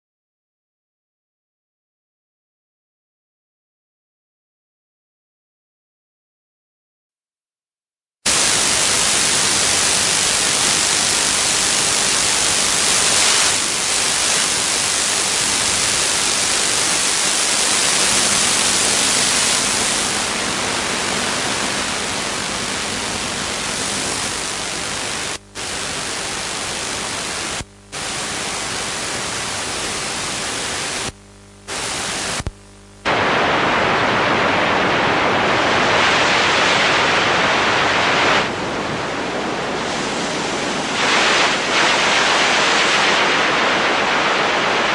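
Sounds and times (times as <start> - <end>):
radio static hiss: 8.3 - 44.9.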